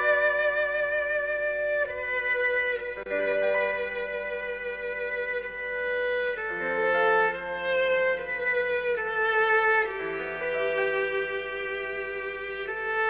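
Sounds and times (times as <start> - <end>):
violin playing slow melody: 0.0 - 13.0.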